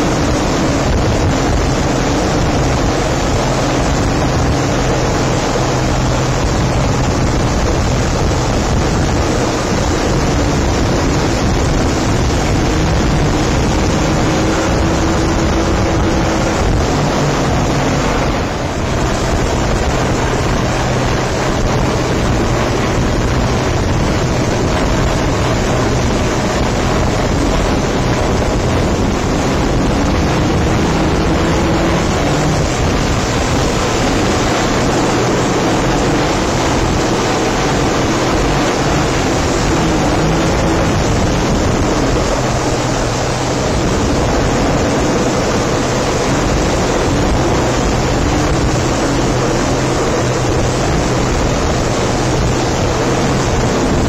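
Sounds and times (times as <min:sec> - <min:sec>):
helicopter hovering: 0:00.0 - 0:54.0
outboard engines droning: 0:00.0 - 0:54.0
wind on microphone: 0:00.0 - 0:54.0.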